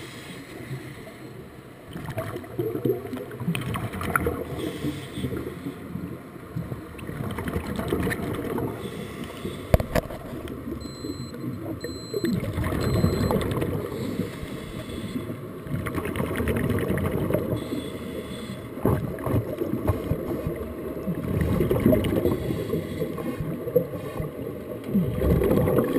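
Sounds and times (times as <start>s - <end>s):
muffled underwater bubbling: 1.8s - 25.9s.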